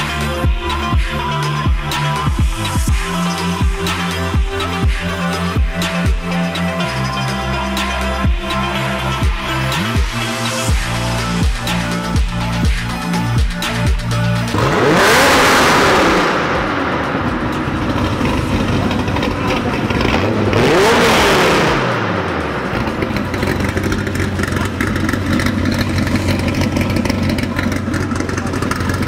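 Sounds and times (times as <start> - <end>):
car engine revving and idling: 0.0 - 29.0
electronic music: 0.0 - 29.0.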